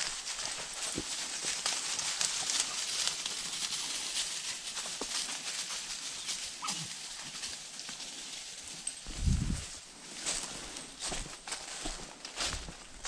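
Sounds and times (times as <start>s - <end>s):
footsteps crunching dry leaves: 0.0s - 13.0s
twigs and leaves brushing: 0.0s - 13.0s.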